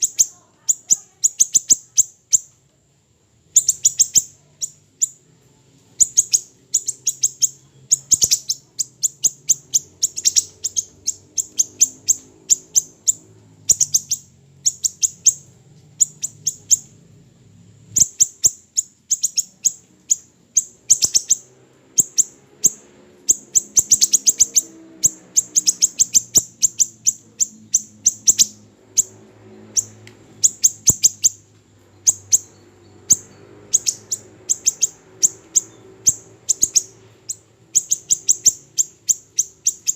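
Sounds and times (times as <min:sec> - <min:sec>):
songbird trilling high chips: 0:00.0 - 0:02.5, 0:03.5 - 0:05.2, 0:06.0 - 0:17.0, 0:18.0 - 0:39.9
faint low hum: 0:00.0 - 0:39.9.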